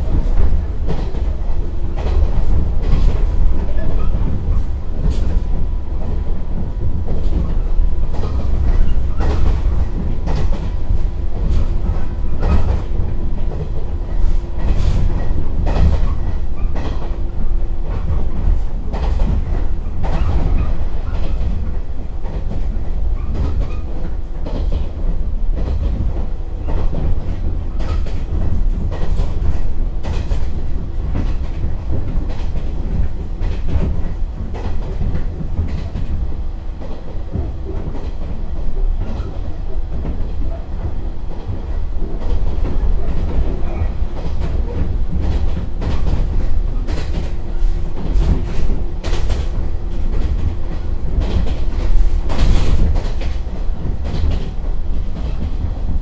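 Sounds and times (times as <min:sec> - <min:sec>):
train bogies rumbling: 0:00.0 - 0:56.0.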